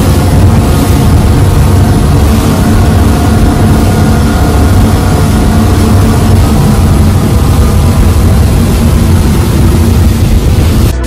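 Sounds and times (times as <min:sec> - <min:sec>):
outboard engines droning: 0:00.0 - 0:11.0
water and wind rushing on hull: 0:00.0 - 0:11.0.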